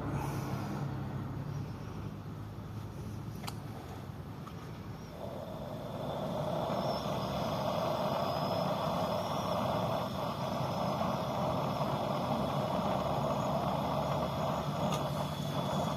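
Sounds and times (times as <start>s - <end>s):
motor vehicle engine drone: 0.0s - 3.4s, 4.7s - 15.9s.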